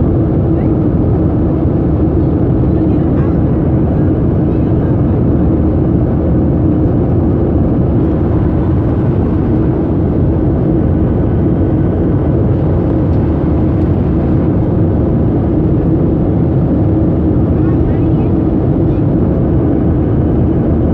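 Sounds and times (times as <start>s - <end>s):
jet engines and airflow in cabin: 0.0s - 20.9s.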